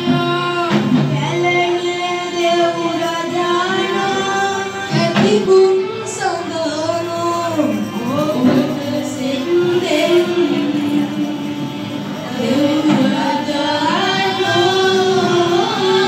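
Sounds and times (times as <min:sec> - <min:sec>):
musical accompaniment: 0:00.0 - 0:16.0
woman singing: 0:00.0 - 0:16.0.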